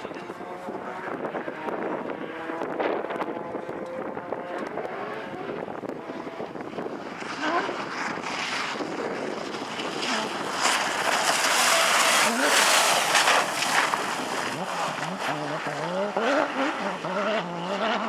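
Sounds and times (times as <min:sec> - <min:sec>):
wind on microphone: 0:00.0 - 0:17.6
rally car engine revving: 0:00.0 - 0:18.0.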